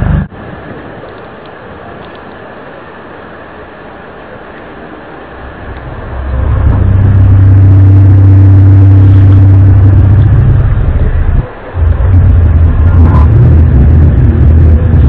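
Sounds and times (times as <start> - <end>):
low droning hum: 0.0 - 1.7, 3.4 - 15.0.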